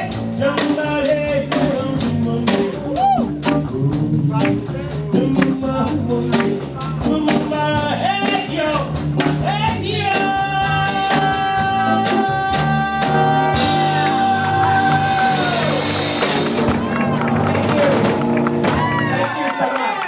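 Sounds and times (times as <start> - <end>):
live jazz band: 0.0 - 19.6
drum strokes: 0.3 - 19.0.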